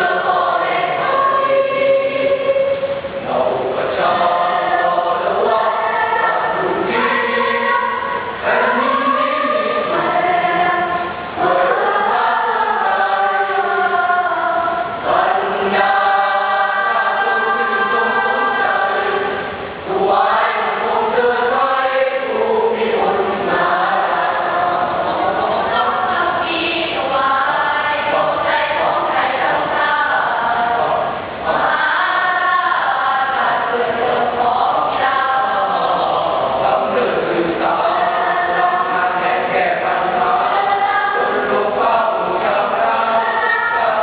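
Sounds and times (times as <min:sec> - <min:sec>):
choir singing sustained chords: 0:00.0 - 0:44.0.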